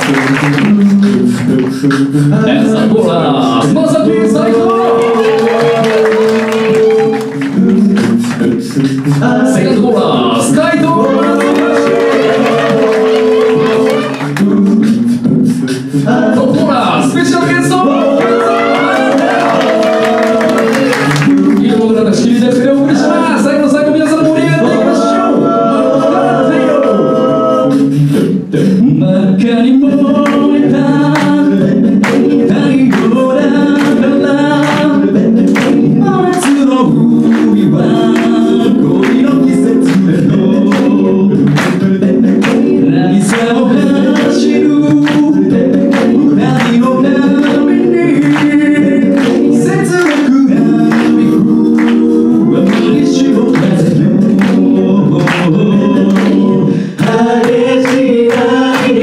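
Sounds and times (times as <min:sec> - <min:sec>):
beatboxing: 0:00.0 - 0:59.0
vocal group singing in harmony: 0:00.0 - 0:59.0.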